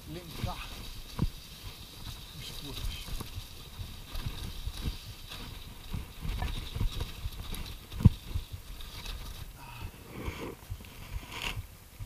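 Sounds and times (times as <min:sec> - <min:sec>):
mountain bike rattling over rocks: 0:00.0 - 0:10.0.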